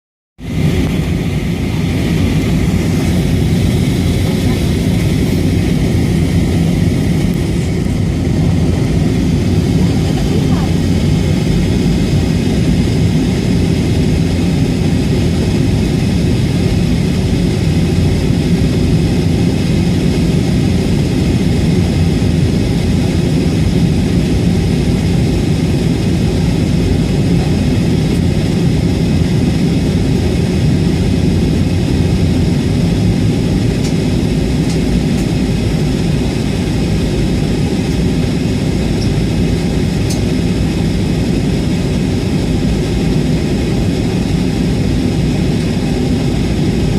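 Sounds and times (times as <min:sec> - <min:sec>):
airliner cabin rumble: 0:00.4 - 0:46.9.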